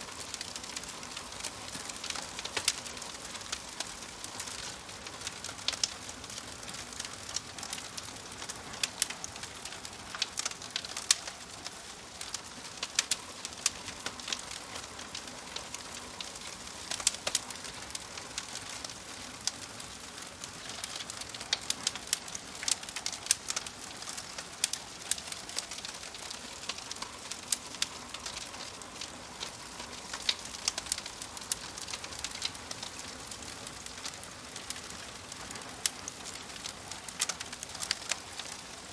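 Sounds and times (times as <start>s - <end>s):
steady hiss: 0.0s - 38.9s
wood fire crackling and popping: 0.0s - 38.9s.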